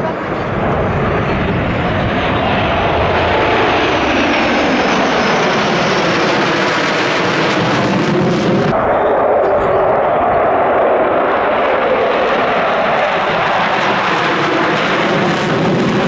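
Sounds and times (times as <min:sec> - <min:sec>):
fighter jets flying over: 0:00.0 - 0:16.0.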